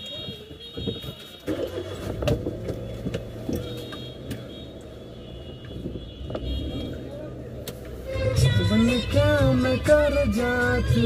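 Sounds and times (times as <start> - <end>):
car engine idling: 1.5 - 11.0.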